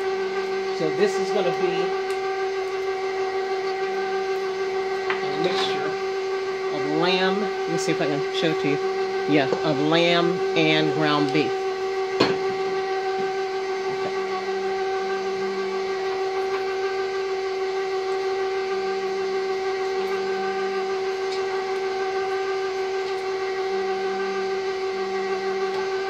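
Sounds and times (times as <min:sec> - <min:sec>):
stand mixer meat grinder whine: 0:00.0 - 0:26.0.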